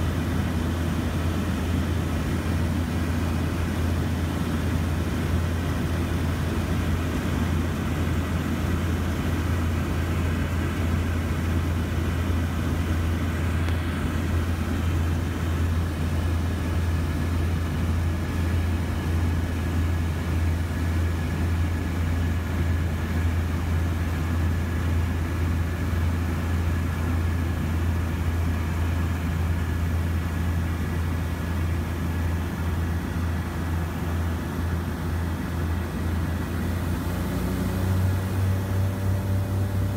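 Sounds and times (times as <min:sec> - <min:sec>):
propeller plane cabin drone: 0:00.0 - 0:39.9.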